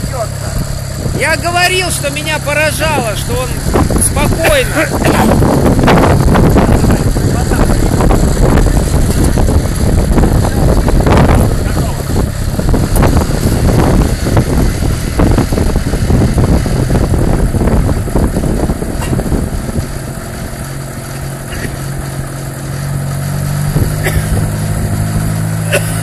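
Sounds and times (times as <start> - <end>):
propeller engine running: 0.0 - 26.0.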